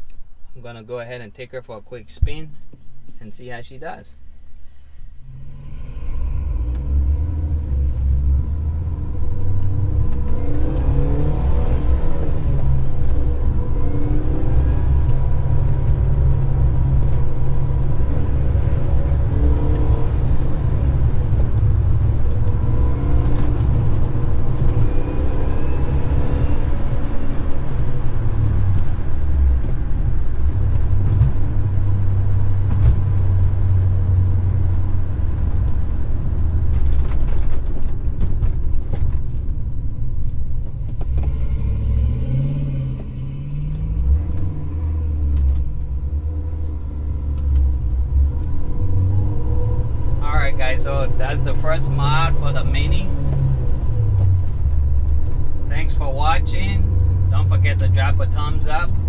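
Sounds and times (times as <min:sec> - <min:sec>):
car engine accelerating: 0:04.9 - 0:59.0.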